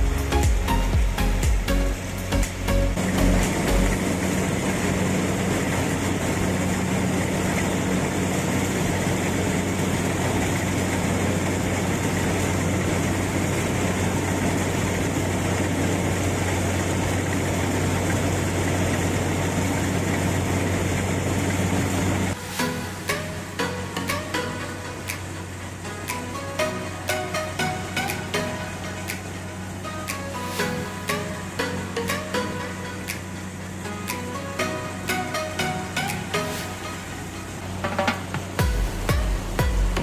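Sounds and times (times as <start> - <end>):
engine humming steadily: 0.0 - 40.0.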